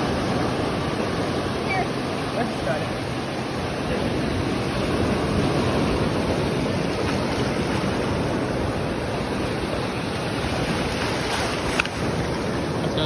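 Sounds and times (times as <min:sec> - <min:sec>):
ocean surf washing up beach: 0:00.0 - 0:13.0.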